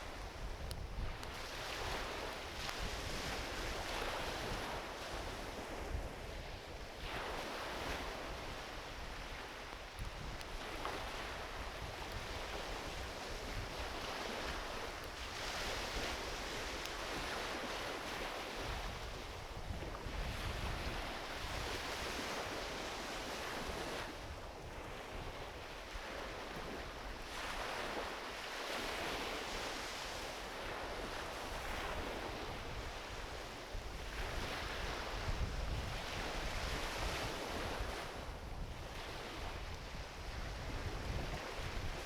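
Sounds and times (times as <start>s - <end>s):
waves washing onto beach: 0.0s - 42.0s
wind rumble on microphone: 0.0s - 42.0s.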